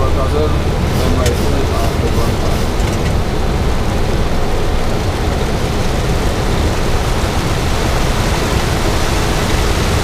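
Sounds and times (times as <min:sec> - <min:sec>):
airflow rush and engine rumble: 0:00.0 - 0:10.0
heavy rain on windscreen: 0:00.0 - 0:10.0.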